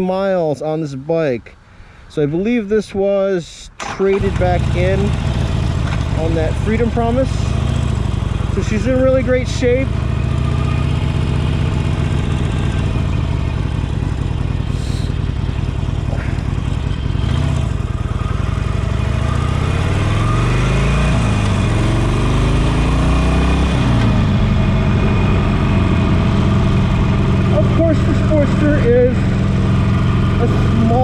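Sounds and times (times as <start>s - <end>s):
motorcycle engine shifting gears: 3.8s - 31.0s.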